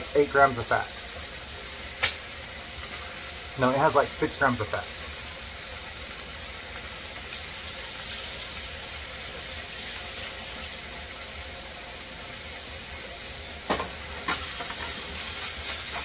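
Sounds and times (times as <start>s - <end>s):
eggs sizzling in a skillet: 0.0s - 16.0s.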